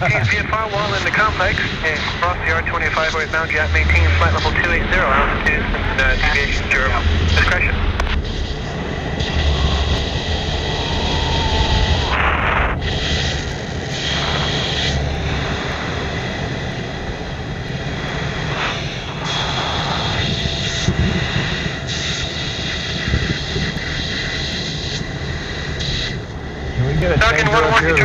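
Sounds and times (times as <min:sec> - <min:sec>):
jet engine roar and rushing air: 0:00.0 - 0:28.0
thin steady whine: 0:00.0 - 0:28.0.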